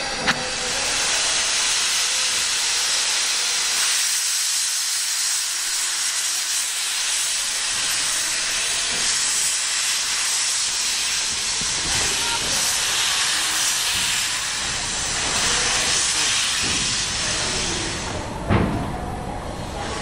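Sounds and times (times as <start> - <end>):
steam hissing: 0.0 - 18.8.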